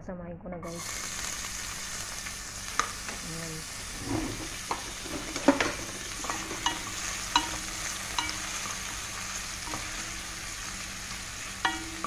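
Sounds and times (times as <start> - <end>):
vegetables sizzling in hot oil: 0.7 - 12.0.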